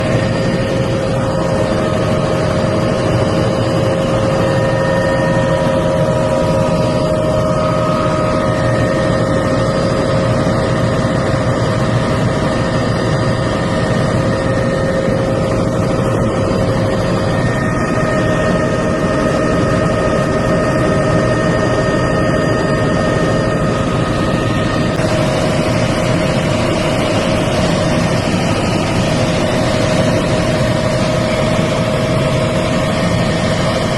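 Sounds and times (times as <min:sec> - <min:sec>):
helicopter rotor rumble: 0:00.0 - 0:33.9
turbine whine: 0:00.0 - 0:33.9.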